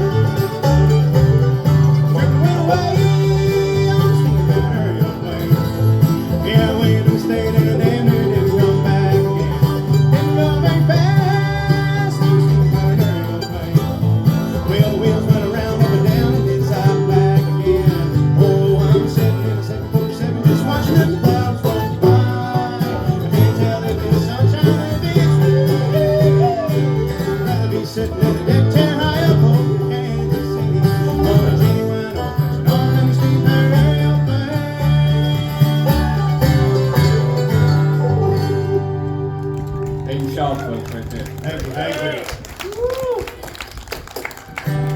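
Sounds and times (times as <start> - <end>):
banjo picking: 0.0 - 41.4
guitar picking: 0.0 - 41.9, 44.4 - 44.9
bass line: 0.0 - 43.2.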